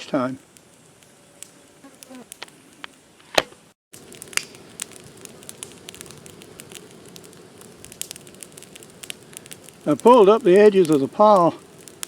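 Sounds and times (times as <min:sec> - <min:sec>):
brush fire crackling: 0:00.0 - 0:12.0
fire popping and snapping: 0:00.0 - 0:12.0.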